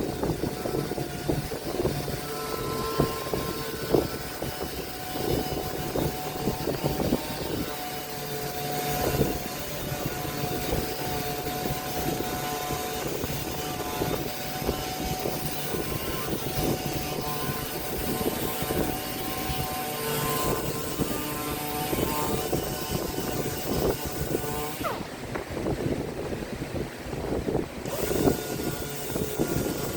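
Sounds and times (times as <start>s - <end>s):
power tool cutting wood: 0.0s - 25.2s, 27.8s - 29.9s.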